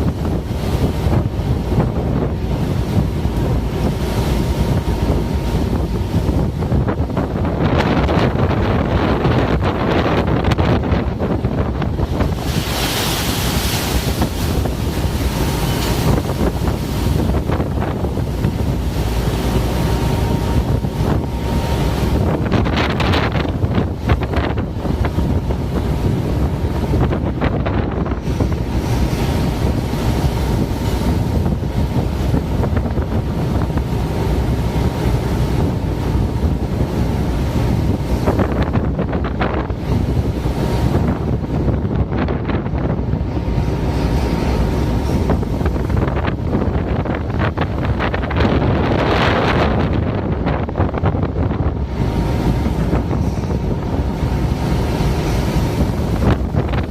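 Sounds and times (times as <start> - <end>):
hissing surges of water: 0.0 - 56.9
rush of stormy seas: 0.0 - 56.9
wind buffeting microphone: 0.0 - 56.9.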